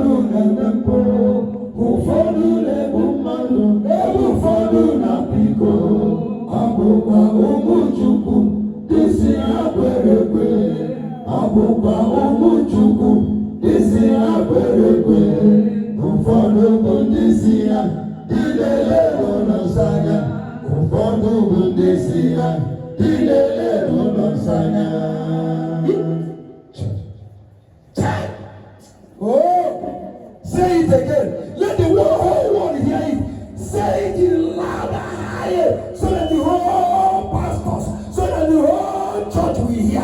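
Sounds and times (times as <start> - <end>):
congregation singing: 0.0 - 26.9, 28.0 - 40.0.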